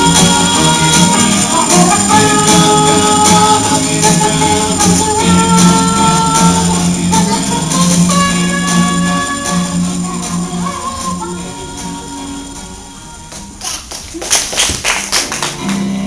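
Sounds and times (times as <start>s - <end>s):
upbeat song with steady beat: 0.0s - 16.0s.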